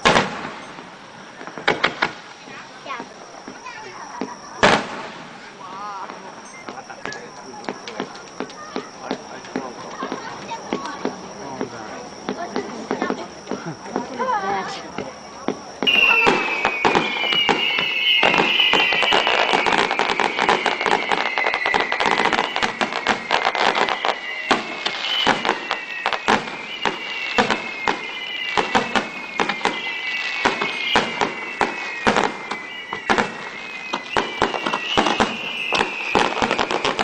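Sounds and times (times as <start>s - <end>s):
firework crackles and pops: 0.0s - 37.0s
firework whistles sliding down: 0.0s - 37.0s.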